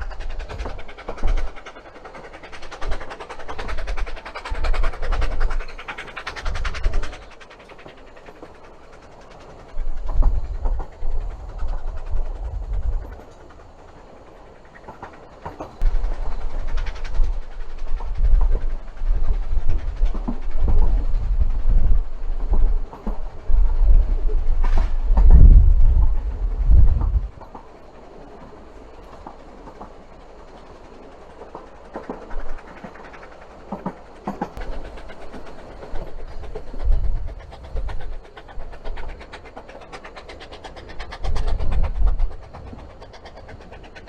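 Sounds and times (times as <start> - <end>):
deep train rumble: 0.0 - 44.0
train wheels clattering on track: 0.0 - 44.0.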